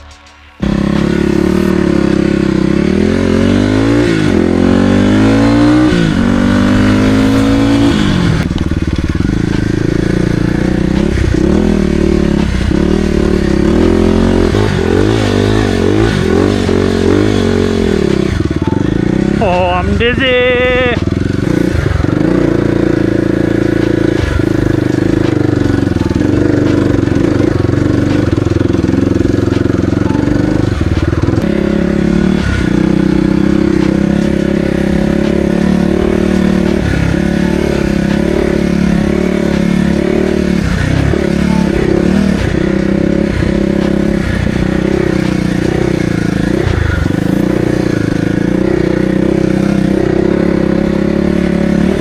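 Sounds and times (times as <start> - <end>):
dirt bike engine revving: 0.6 - 52.0.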